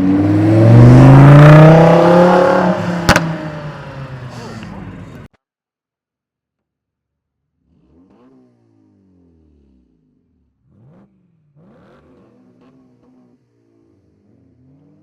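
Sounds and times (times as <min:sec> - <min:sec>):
car engine revving: 0:00.0 - 0:05.3, 0:07.6 - 0:15.0.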